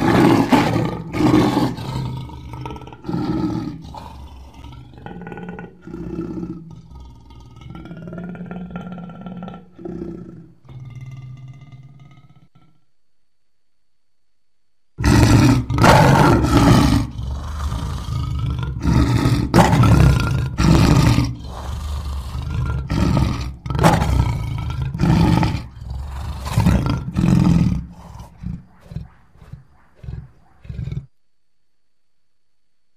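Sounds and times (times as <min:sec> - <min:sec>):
lion grunts: 0:00.0 - 0:12.8, 0:15.0 - 0:31.2
lion roaring: 0:00.0 - 0:12.8, 0:15.0 - 0:31.2.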